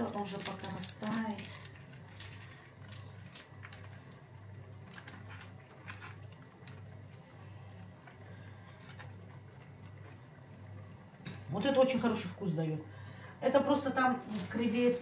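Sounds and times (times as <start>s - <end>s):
wet squishing of food: 0.0s - 12.3s
low steady hum: 0.0s - 15.0s.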